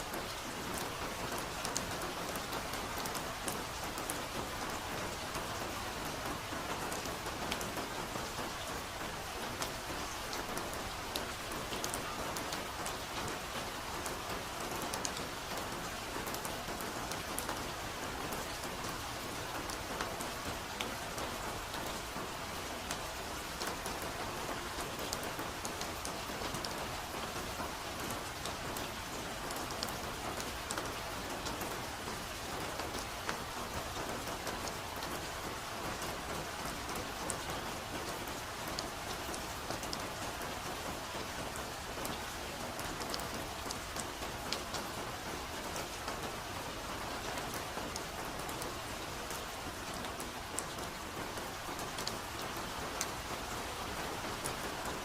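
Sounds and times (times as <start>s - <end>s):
soft rain on foliage: 0.0s - 55.0s.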